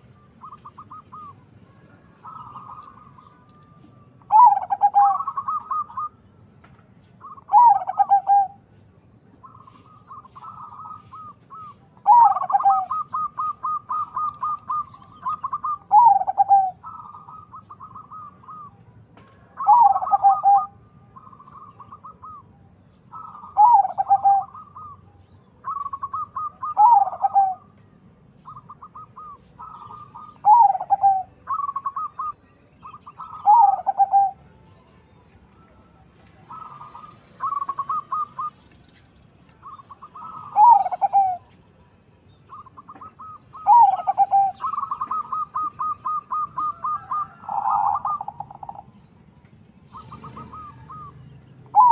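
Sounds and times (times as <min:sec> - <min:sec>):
dove cooing: 0:00.0 - 0:06.2, 0:07.2 - 0:08.7, 0:09.4 - 0:27.7, 0:28.4 - 0:34.5, 0:35.7 - 0:38.9, 0:39.5 - 0:41.5, 0:42.5 - 0:49.0, 0:49.8 - 0:51.9.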